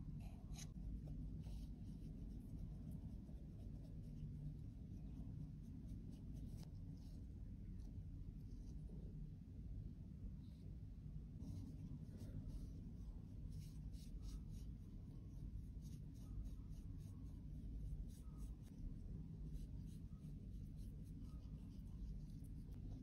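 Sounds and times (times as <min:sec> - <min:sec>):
small brush sweeping strokes: 0:00.2 - 0:09.0, 0:11.3 - 0:23.0.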